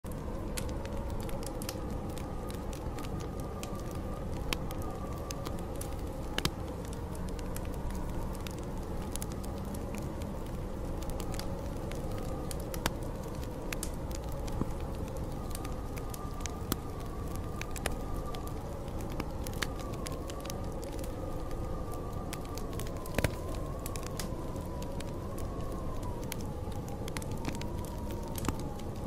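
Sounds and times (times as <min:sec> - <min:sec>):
howling snowstorm wind: 0:00.0 - 0:29.0
wood fire crackling and popping: 0:00.0 - 0:29.0.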